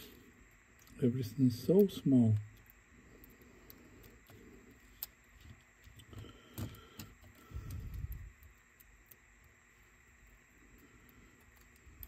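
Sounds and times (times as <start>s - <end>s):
small plastic parts clicking: 1.8s - 12.0s.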